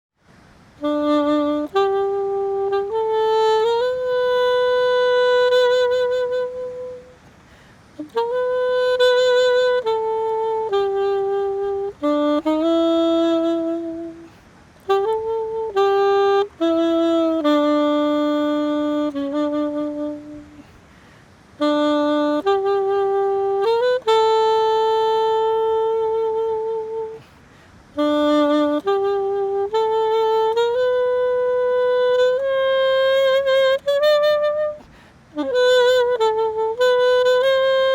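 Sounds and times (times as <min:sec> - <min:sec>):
solo saxophone hymn melody: 0:00.0 - 0:37.9.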